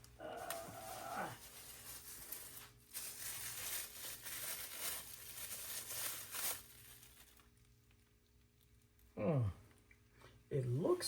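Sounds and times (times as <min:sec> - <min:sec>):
packaging crinkling and rustling: 0:00.0 - 0:09.1.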